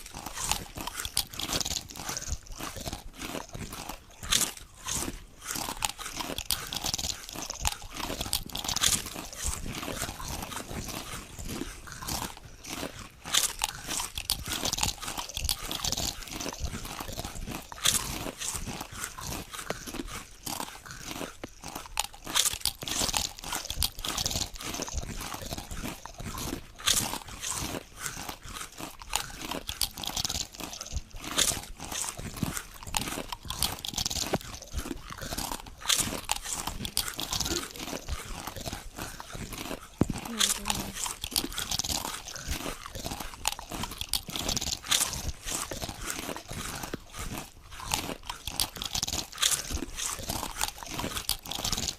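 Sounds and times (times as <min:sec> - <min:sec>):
potato chips crunching: 0:00.0 - 0:51.9.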